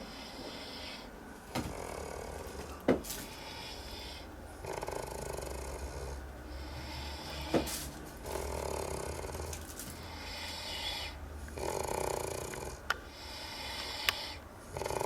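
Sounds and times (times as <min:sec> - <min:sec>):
man snoring: 0:00.2 - 0:02.7, 0:03.4 - 0:15.0.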